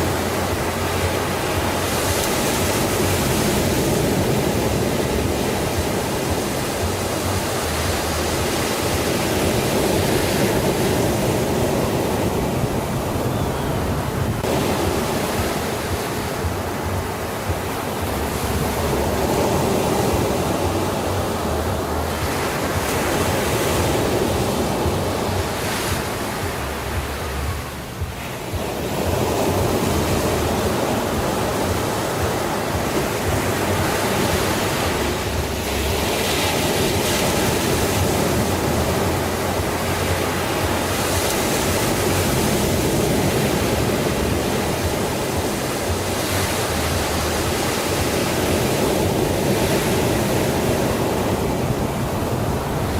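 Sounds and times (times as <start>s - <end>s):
sea waves washing in: 0.0s - 52.9s.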